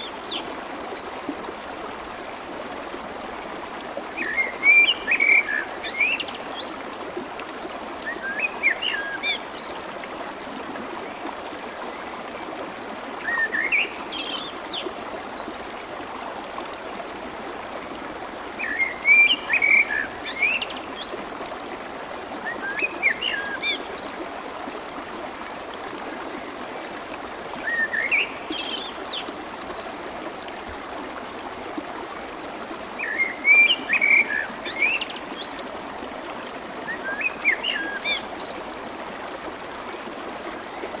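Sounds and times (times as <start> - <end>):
stream water babbling: 0.0 - 41.0.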